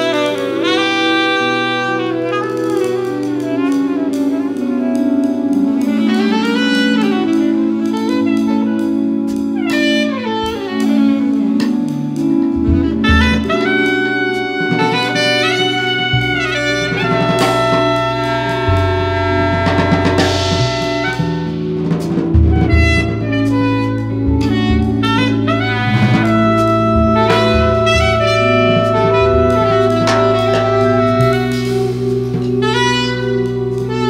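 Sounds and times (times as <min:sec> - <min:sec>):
drum kit: 0:00.0 - 0:34.0
low bass notes: 0:00.0 - 0:34.0
saxophone playing quick lines: 0:00.0 - 0:34.0.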